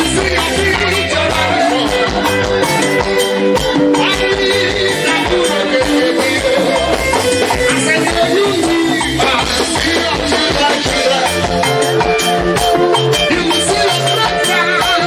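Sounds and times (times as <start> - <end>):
drums: 0.0 - 15.0
guitar melody: 0.0 - 15.0
live band music: 0.0 - 15.0.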